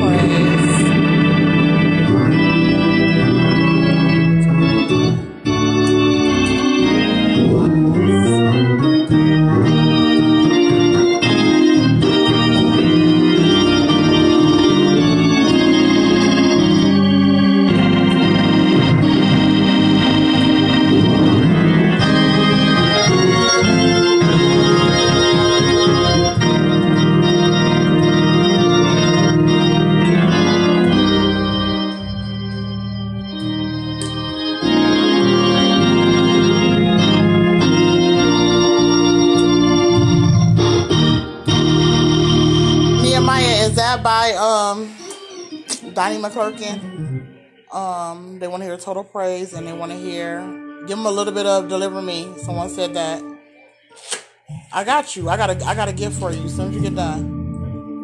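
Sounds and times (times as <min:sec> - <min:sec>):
organ playing chords: 0:00.0 - 0:58.0.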